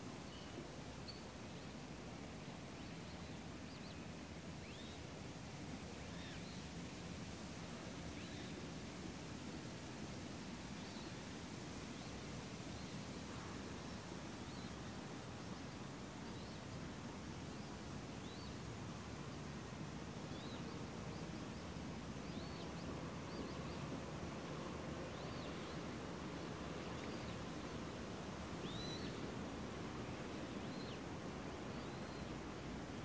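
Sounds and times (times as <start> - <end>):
low background noise: 0.0 - 33.0.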